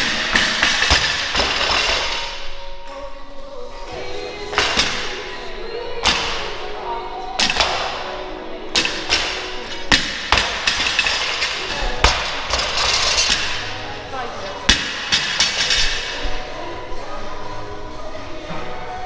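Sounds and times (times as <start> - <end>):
music playing: 0.0 - 19.0.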